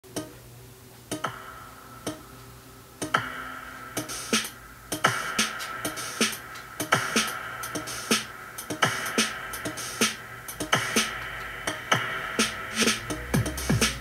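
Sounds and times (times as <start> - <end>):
drum machine beat: 0.0 - 0.4, 1.0 - 14.0.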